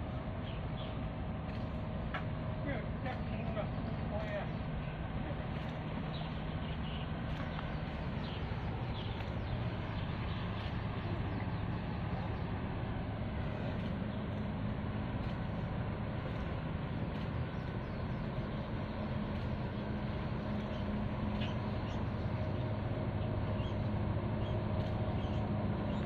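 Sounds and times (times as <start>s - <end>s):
outdoor noise: 0.0s - 26.0s
ship engines humming: 0.0s - 26.0s.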